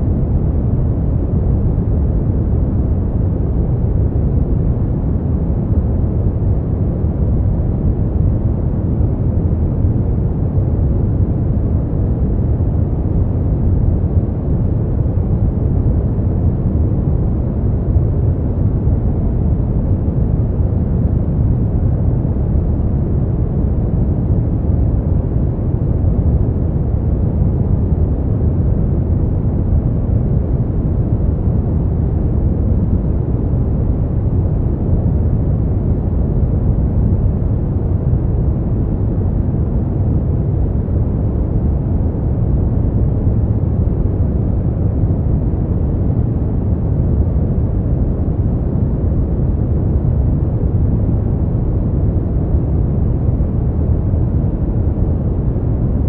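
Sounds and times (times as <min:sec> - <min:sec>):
brown noise rumble: 0:00.0 - 0:56.0.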